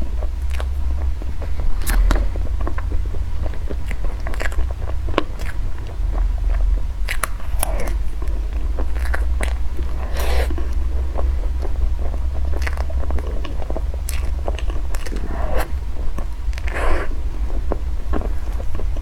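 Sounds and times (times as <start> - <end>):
chewing and biting food: 0.0 - 19.0
steady low hum: 0.0 - 19.0
wet mouth sounds: 0.0 - 19.0.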